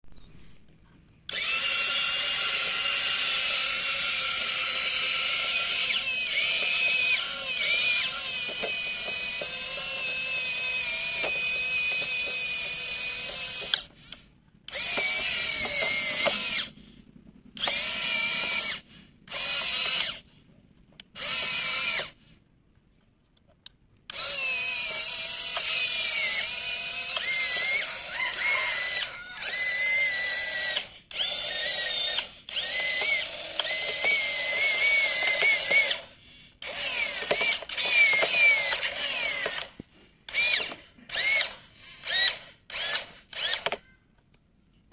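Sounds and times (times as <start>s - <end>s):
small motor whining: 1.2s - 22.4s, 24.1s - 44.0s.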